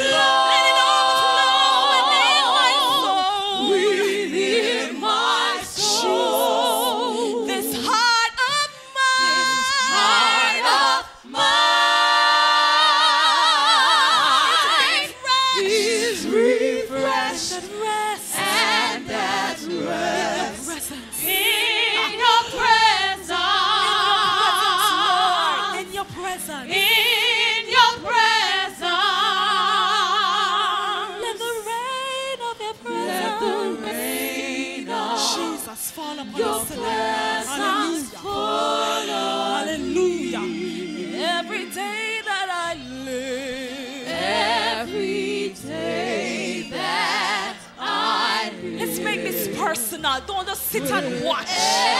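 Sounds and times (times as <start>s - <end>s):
man and woman singing: 0.0s - 51.9s.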